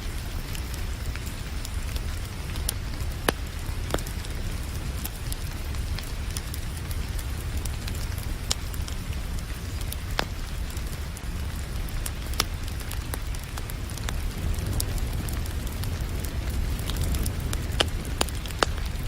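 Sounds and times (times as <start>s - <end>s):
fire crackling and popping: 0.0s - 19.0s
rain hiss: 0.0s - 19.0s.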